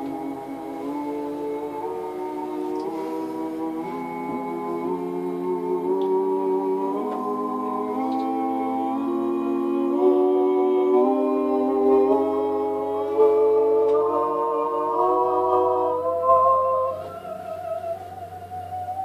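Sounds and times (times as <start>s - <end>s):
choir-like humming chords: 0.0s - 19.0s.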